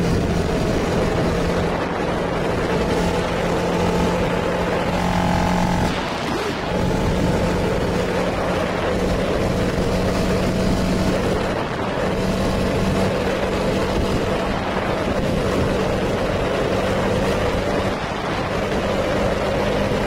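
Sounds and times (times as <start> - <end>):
wind rushing past: 0.0 - 18.7
motorcycle engine cruising: 0.0 - 20.0.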